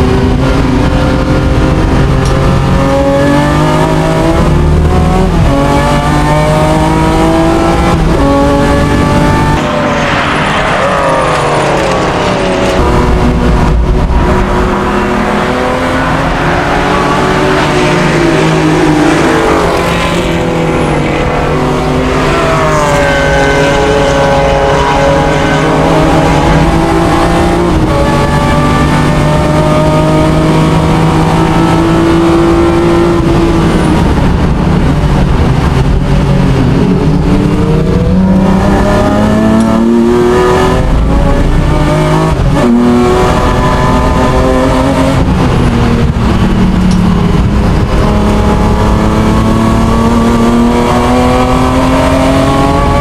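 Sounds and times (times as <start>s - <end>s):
race car engine revving through gears: 0.0s - 53.0s
tyre and wind noise: 0.0s - 53.0s.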